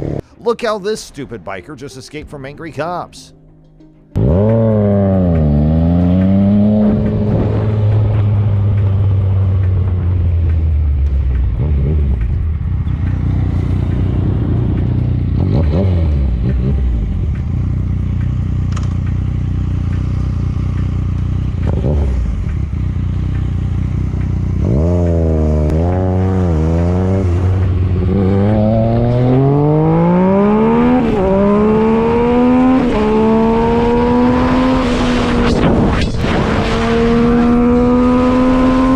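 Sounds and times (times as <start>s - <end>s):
motorcycle engine revving: 4.2s - 38.9s.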